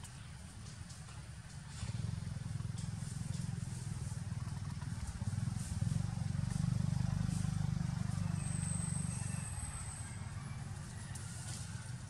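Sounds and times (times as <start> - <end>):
small engine rumbling: 0.0 - 12.0.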